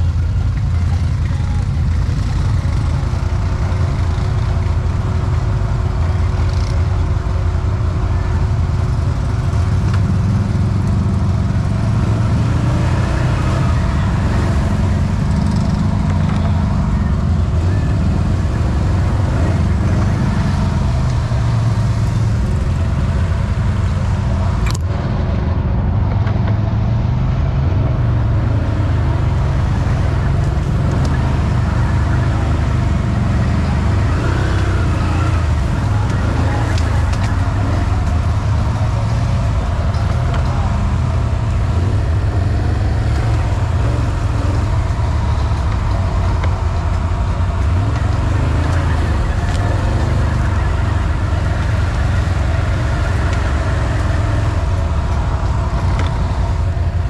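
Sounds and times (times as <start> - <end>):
atv engine rumbling: 0.0 - 57.0.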